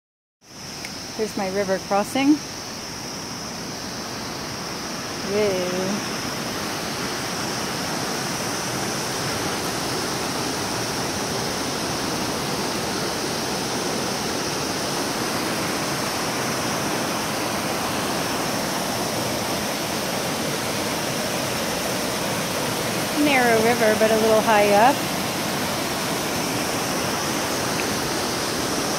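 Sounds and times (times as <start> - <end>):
stream rushing over rocks: 0.5 - 28.9.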